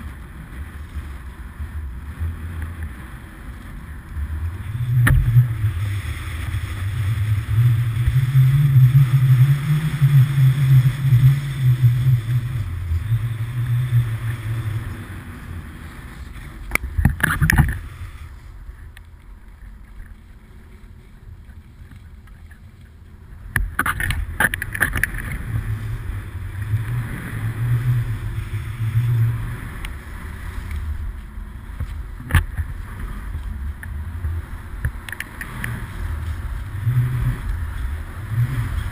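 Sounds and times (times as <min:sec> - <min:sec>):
skis scraping over snow: 0:00.0 - 0:38.9
wind buffeting microphone: 0:00.0 - 0:38.9.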